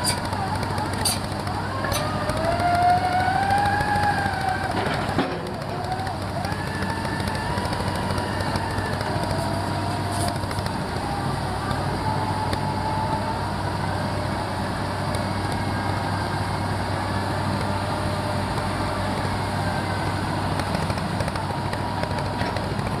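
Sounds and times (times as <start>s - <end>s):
drilling rig engine hum: 0.0s - 23.0s.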